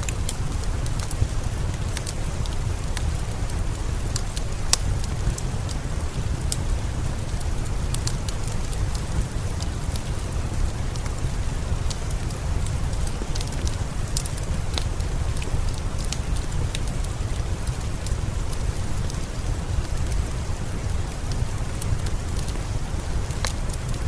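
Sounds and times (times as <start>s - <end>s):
steady rain: 0.0s - 24.0s
wood fire crackling and popping: 0.0s - 24.0s.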